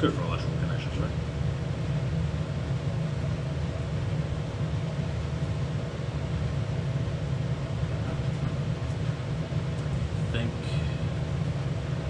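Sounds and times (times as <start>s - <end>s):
faint constant hum: 0.0s - 12.0s
low mechanical rumble: 0.0s - 12.0s.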